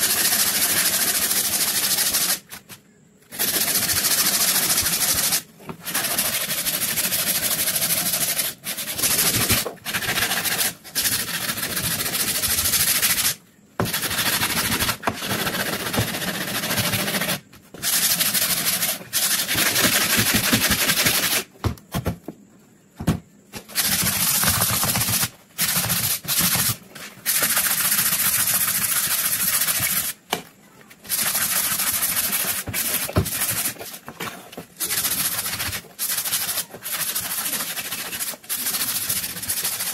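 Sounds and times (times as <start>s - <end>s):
sandpaper rasping on wood: 0.0s - 2.5s, 3.3s - 21.5s, 23.7s - 30.2s, 31.0s - 34.1s, 34.8s - 39.9s.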